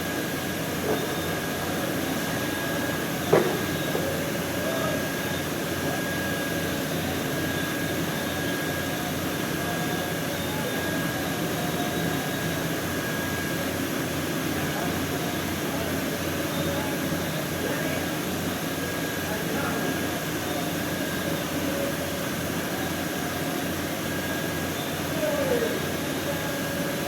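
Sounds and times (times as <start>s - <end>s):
machine noise with high whine: 0.0s - 27.0s.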